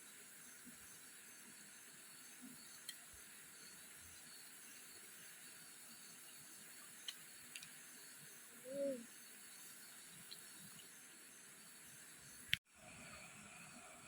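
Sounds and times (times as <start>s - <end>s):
buzz of forest insects: 0.0s - 14.0s.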